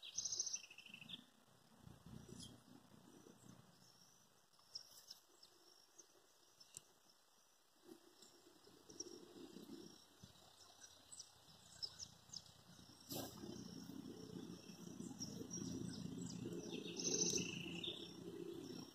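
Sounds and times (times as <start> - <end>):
low steady noise: 0.0 - 18.9
small birds chirping: 0.0 - 18.9.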